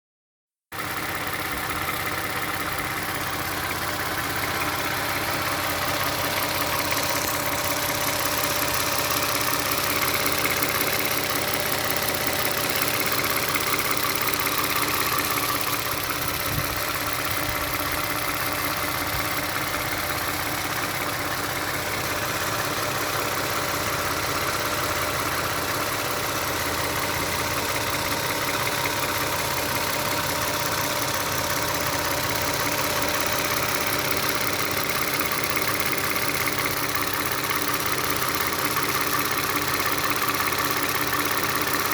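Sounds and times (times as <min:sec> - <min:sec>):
engine idling: 0:00.7 - 0:41.9
rapid clicking in engine: 0:00.8 - 0:41.9.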